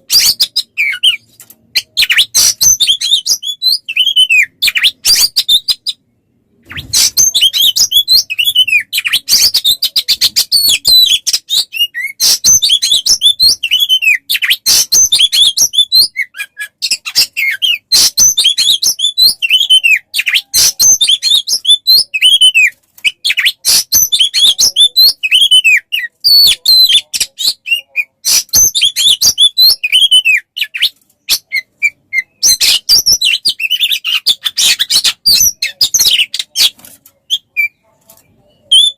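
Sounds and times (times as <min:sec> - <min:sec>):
birdsong of chips and whistles: 0:00.0 - 0:06.0, 0:06.6 - 0:38.9.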